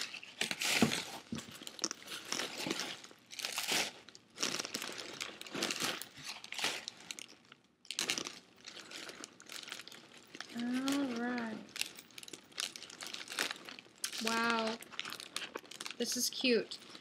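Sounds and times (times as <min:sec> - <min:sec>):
paper crinkling: 0:00.0 - 0:17.0.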